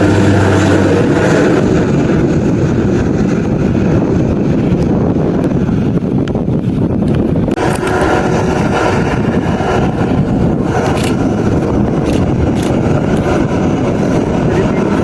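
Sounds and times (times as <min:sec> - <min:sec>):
aircraft engines running: 0:00.0 - 0:15.0.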